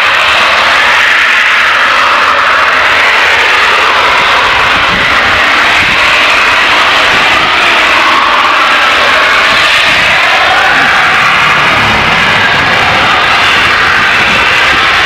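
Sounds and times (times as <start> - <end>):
high-pressure gas venting hiss: 0.0 - 15.0.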